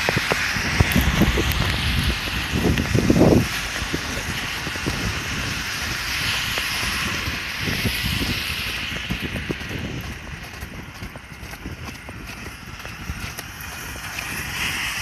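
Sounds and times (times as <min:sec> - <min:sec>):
footsteps on wet pavement: 0:00.0 - 0:15.0
traffic hiss on wet roads: 0:00.0 - 0:15.0
wind gusting on microphone: 0:00.0 - 0:15.0.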